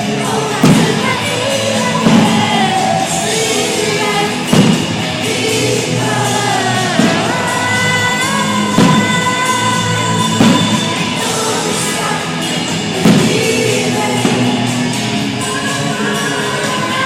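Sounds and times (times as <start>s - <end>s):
music with singer: 0.0s - 17.0s.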